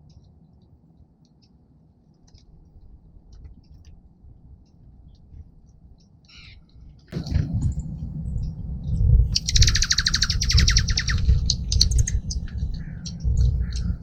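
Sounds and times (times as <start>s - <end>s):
low outdoor rumble: 0.0s - 14.0s
small birds chipping: 0.0s - 14.0s.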